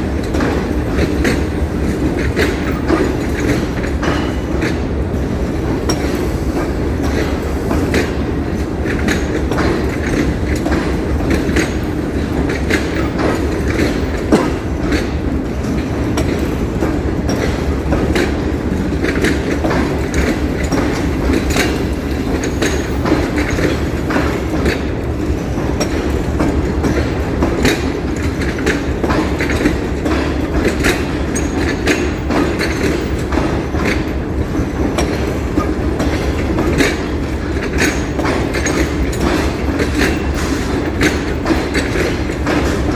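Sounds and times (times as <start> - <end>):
train rumbling on track: 0.0 - 42.9
wheels clicking over rail joints: 0.0 - 42.9.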